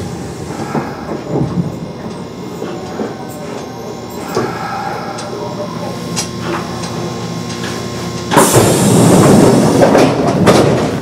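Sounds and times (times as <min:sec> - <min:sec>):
train air rush and rumbling: 0:00.0 - 0:11.0.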